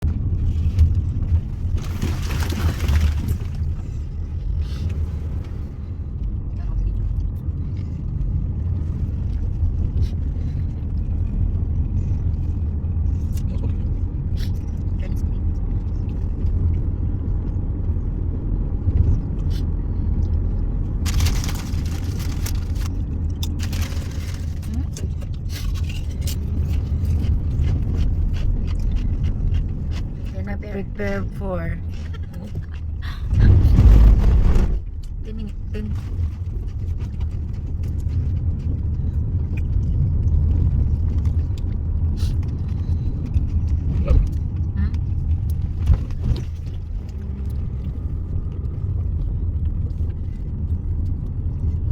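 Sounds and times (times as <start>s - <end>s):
car driving rumble: 0.0s - 51.9s.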